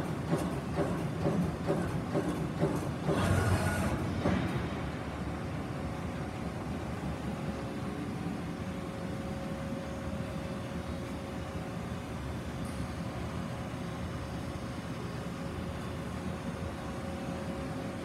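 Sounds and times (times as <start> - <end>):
punch press machine hum: 0.0 - 18.0.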